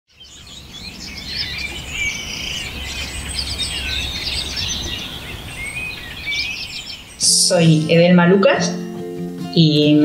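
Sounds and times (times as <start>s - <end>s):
small birds chirping and singing: 0.1s - 10.0s.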